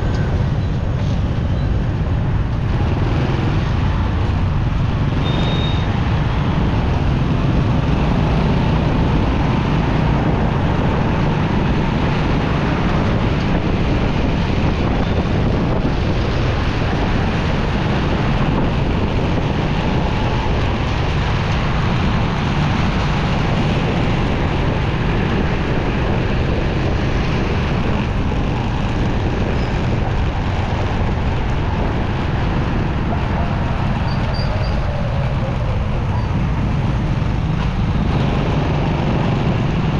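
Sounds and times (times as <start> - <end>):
road traffic: 0.0 - 39.9
wind rushing over microphone: 0.0 - 39.9.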